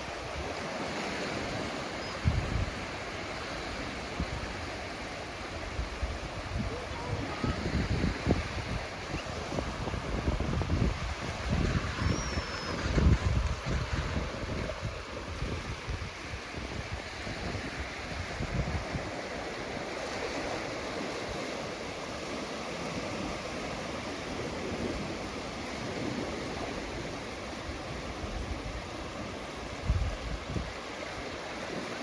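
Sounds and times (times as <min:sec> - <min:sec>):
ocean surf washing on beach: 0:00.0 - 0:32.0
wind rumble on microphone: 0:00.0 - 0:32.0.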